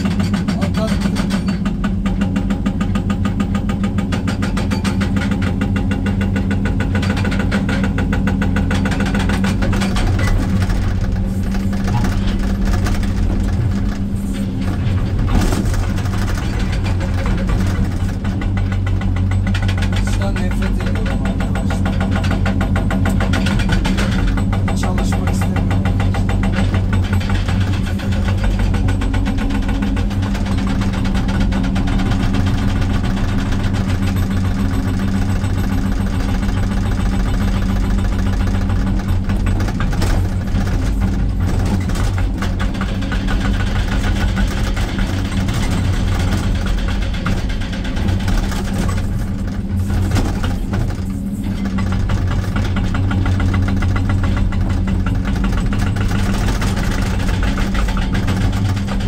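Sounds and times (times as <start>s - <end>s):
diesel engine hum: 0.0s - 59.0s
hydraulic breaker hammering rock: 0.0s - 59.0s.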